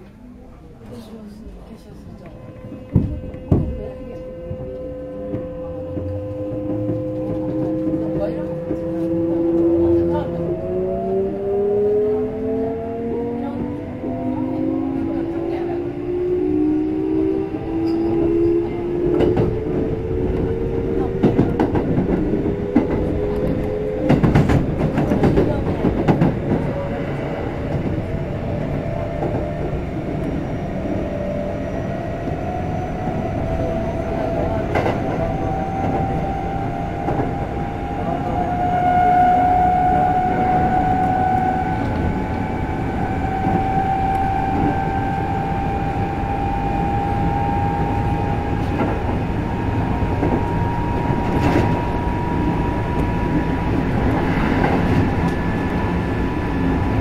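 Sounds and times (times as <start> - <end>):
train running rumble: 0.0 - 57.0
electric train motor whine: 2.3 - 24.9, 27.1 - 57.0.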